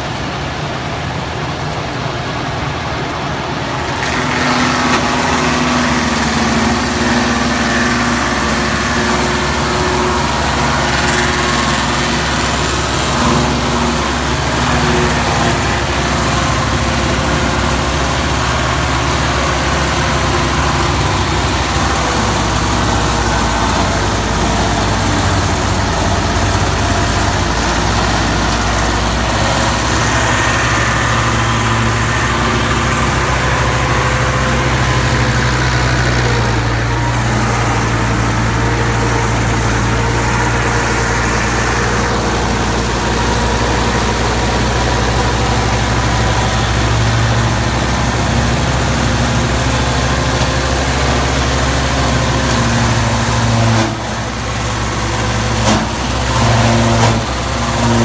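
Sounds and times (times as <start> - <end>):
tractor engine humming: 0.0 - 58.0
wood crusher grinding wood: 2.7 - 58.0.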